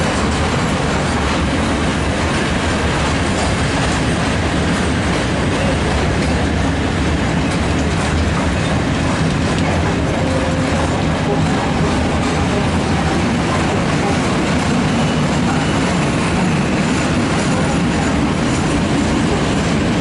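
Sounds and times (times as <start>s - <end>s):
freight train rolling past: 0.0s - 20.0s
wheels clicking over rail joints: 0.0s - 20.0s.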